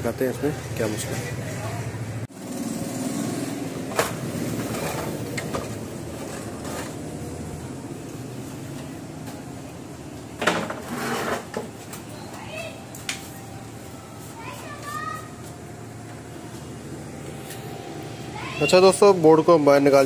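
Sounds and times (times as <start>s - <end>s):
low background hum: 3.5s - 20.0s.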